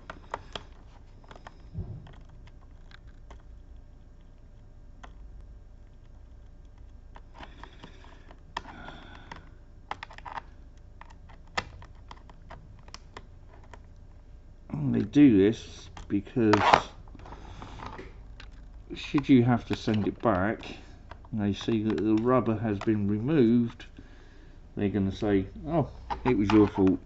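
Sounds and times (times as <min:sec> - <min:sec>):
tools clicking on plastic: 0:00.0 - 0:05.2, 0:05.9 - 0:14.0, 0:15.8 - 0:23.9, 0:26.0 - 0:27.0.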